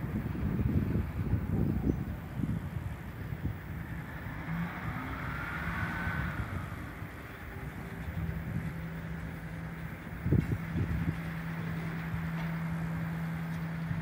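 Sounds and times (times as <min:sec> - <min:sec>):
locomotive diesel engine: 0:00.0 - 0:14.0.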